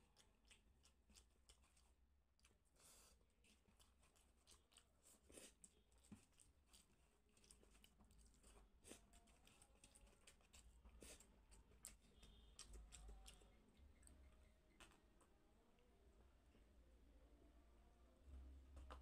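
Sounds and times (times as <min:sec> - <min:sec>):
chewing: 0:00.0 - 0:15.3.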